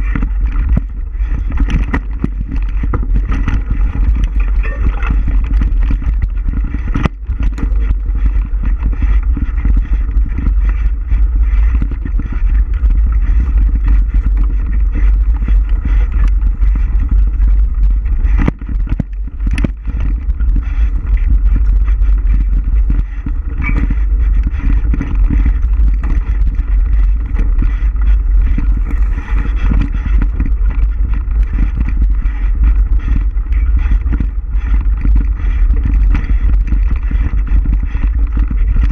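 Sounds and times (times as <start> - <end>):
bike knocks and rattles: 0.0 - 38.9
wind buffeting microphone: 0.0 - 38.9.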